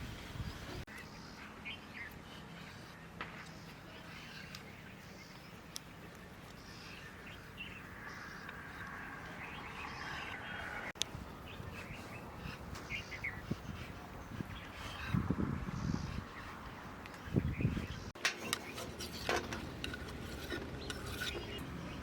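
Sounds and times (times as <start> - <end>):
faint outdoor background: 0.0 - 22.0
birds chirping and calling: 0.1 - 22.0.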